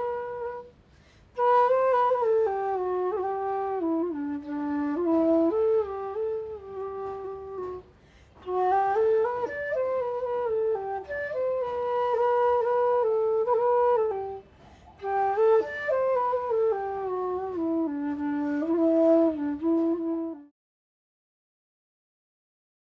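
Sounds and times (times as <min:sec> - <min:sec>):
solo flute slow melody: 0:00.0 - 0:20.6.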